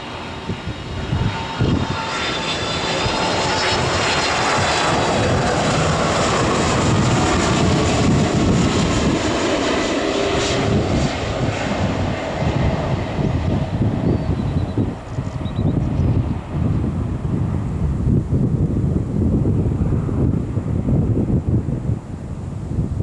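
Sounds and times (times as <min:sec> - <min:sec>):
jet engines whining: 0:00.0 - 0:18.4.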